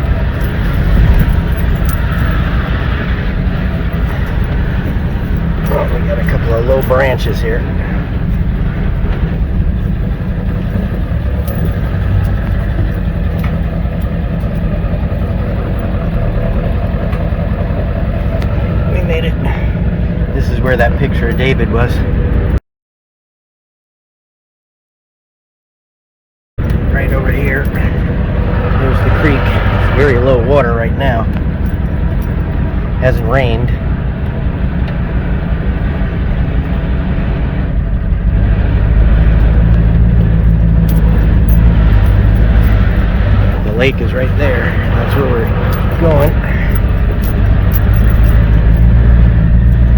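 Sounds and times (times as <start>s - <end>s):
small vehicle engine running: 0.0s - 22.6s, 26.6s - 49.9s.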